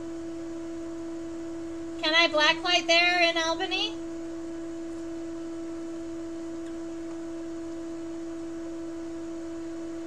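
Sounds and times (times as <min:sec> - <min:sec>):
steady pure tone: 0:00.0 - 0:10.0.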